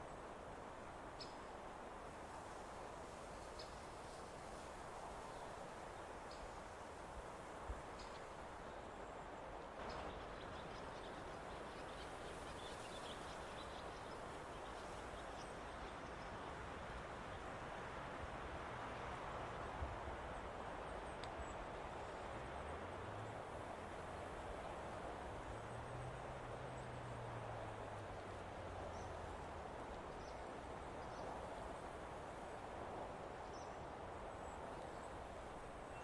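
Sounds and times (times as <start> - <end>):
wind through trees: 0.0 - 36.0.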